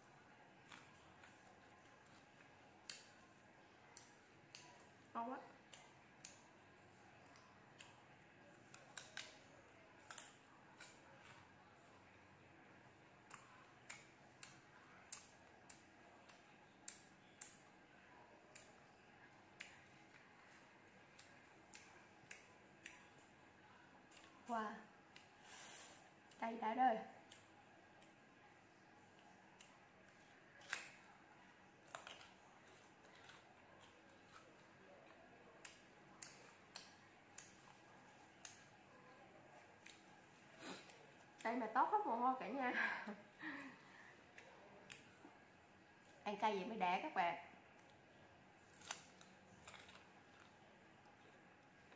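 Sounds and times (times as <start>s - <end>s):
crunchy fruit being chewed: 0.6s - 26.4s, 29.0s - 41.5s, 47.7s - 51.9s.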